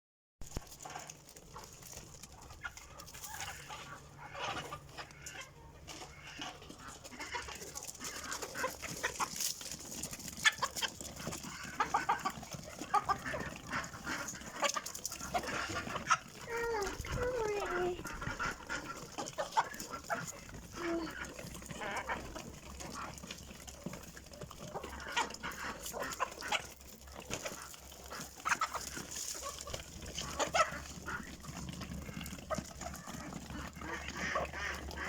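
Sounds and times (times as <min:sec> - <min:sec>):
chickens clucking: 0:00.5 - 0:35.0.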